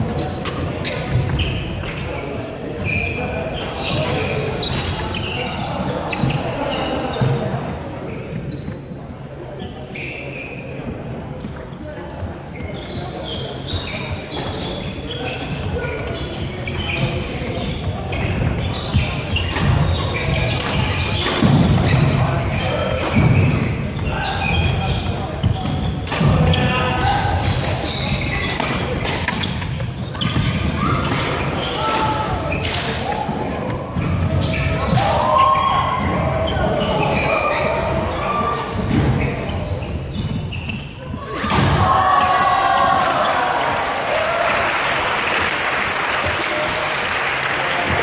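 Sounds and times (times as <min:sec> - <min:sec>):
voices in echoing hall: 0:00.0 - 0:48.0
shoes squeaking on wooden floor: 0:00.2 - 0:41.4.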